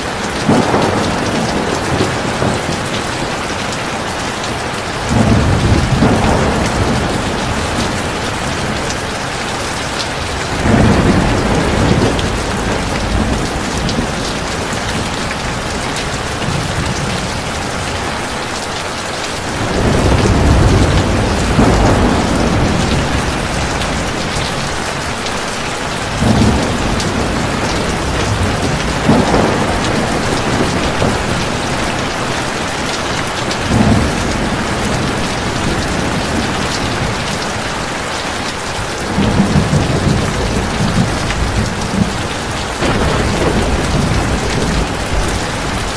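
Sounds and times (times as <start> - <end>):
thunder rumbling: 0.0 - 18.4, 19.4 - 38.0, 38.8 - 45.9
heavy rain falling: 0.0 - 45.9.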